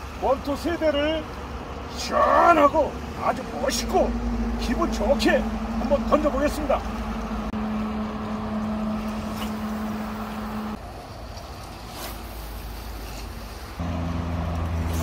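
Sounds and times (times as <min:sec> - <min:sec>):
low engine hum: 0:00.0 - 0:11.8, 0:12.4 - 0:15.0
wind: 0:00.0 - 0:15.0.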